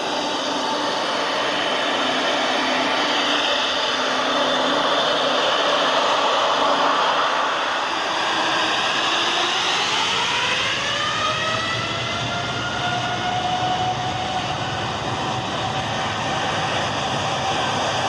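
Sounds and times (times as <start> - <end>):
jet engines spooling up: 0.0 - 18.0.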